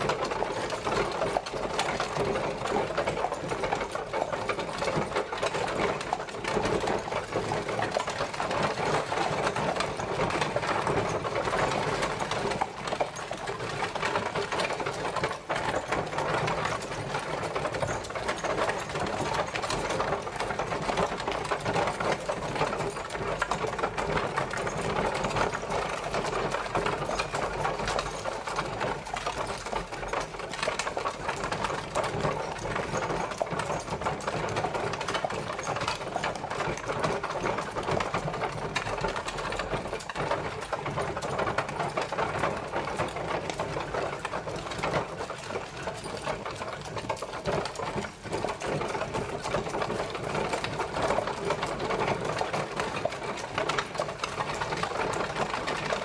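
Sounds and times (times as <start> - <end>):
carriage wheels clattering: 0.0 - 56.0.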